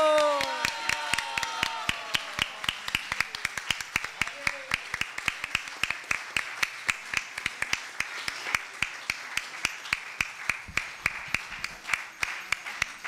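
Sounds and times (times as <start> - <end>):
audience clapping: 0.0 - 13.0.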